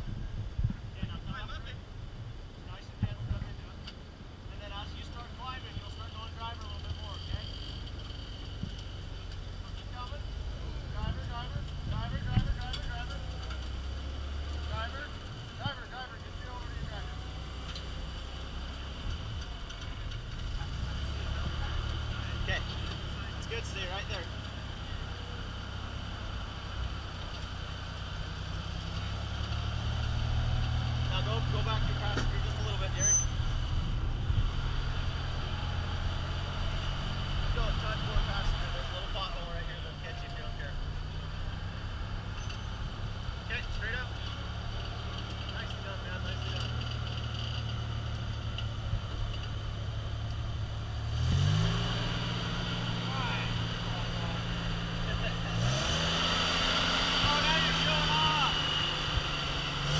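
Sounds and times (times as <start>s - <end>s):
pickup truck engine running: 0.0s - 59.9s.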